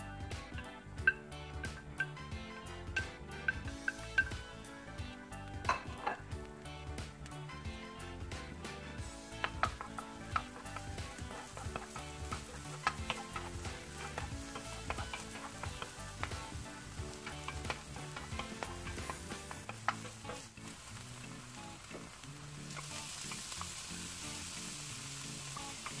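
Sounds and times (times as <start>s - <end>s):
garlic sizzling in oil: 0.0s - 26.0s
spatula knocking and scraping pan: 0.4s - 4.7s, 5.5s - 6.4s, 7.0s - 23.8s.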